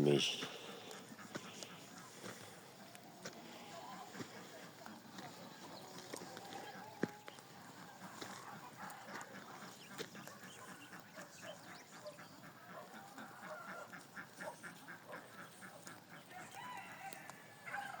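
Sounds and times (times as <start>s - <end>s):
faint poultry clucking: 0.0s - 18.0s.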